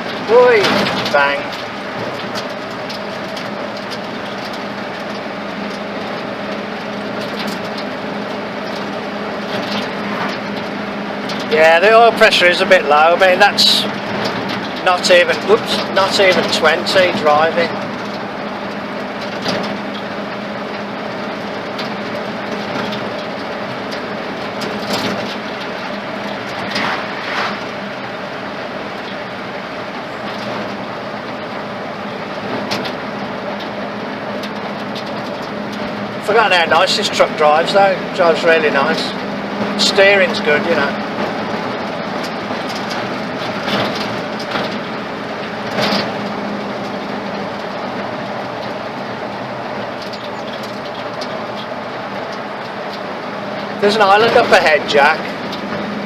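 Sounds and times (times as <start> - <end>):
rattles and knocks: 0.0 - 56.0
road and cab noise: 0.0 - 56.0
truck engine hum: 0.0 - 56.0.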